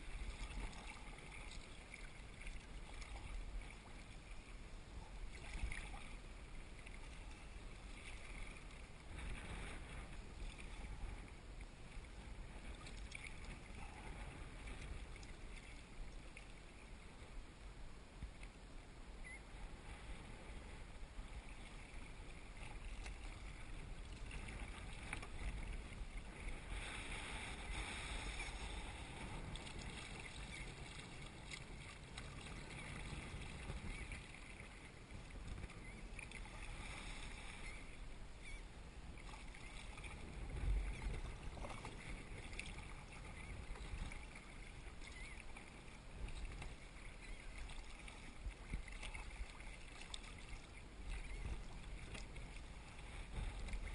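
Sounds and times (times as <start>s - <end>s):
water splashing around kayak: 0.0s - 53.9s.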